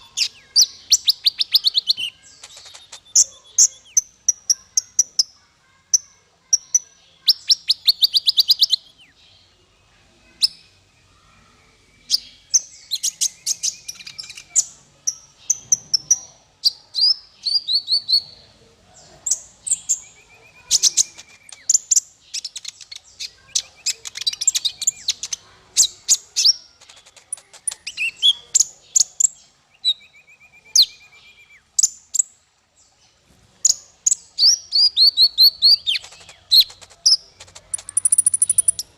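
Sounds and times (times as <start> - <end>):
small songbird singing: 0.0 - 38.9.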